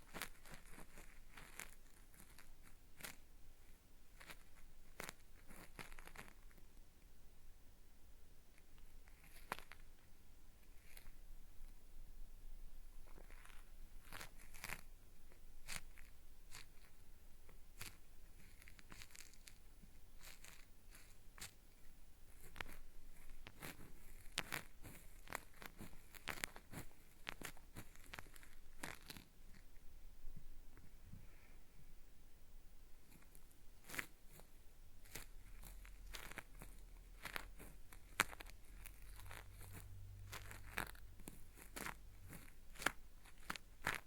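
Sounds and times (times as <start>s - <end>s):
cotton swab scraping microphone: 0.0s - 6.6s, 8.5s - 10.0s, 10.6s - 11.7s, 12.9s - 17.1s, 17.7s - 29.8s, 33.0s - 44.0s.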